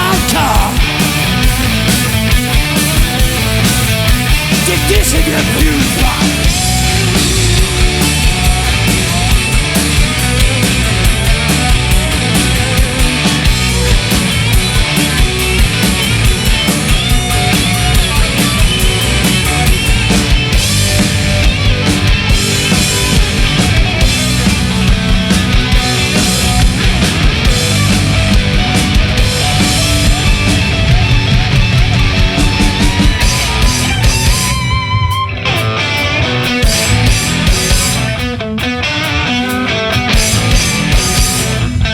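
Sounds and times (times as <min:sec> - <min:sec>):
drum beat: 0:00.0 - 0:35.3, 0:36.4 - 0:38.2
electric guitar: 0:00.0 - 0:41.9
hard rock music: 0:00.0 - 0:41.9.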